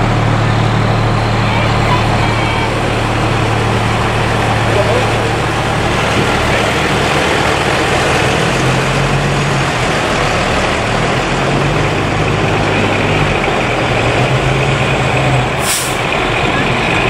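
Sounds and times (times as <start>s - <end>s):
diesel truck engines droning: 0.0s - 17.0s.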